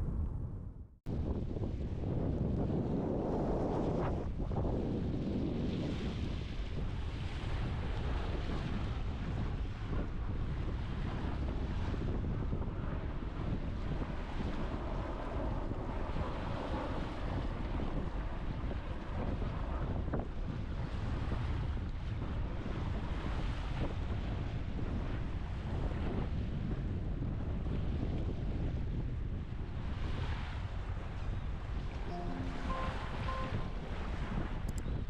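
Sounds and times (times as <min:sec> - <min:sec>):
wind buffeting microphone: 0:00.0 - 0:32.1.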